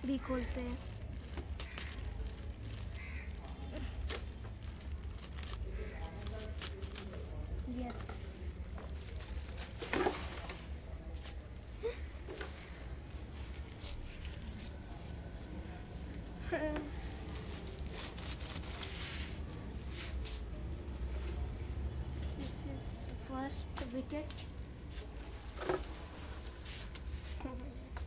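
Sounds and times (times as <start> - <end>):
plastic bag rustling and crinkling: 0.0 - 28.0.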